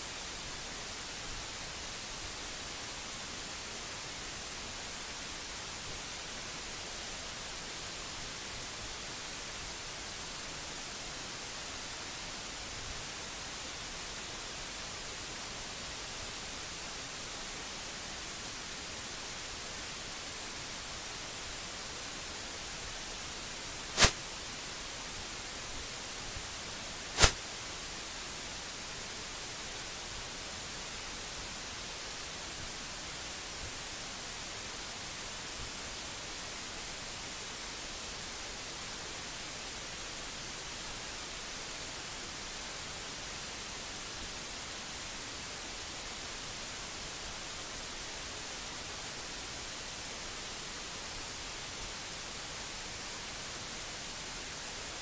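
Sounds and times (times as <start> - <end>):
microphone hiss: 0.0 - 55.0.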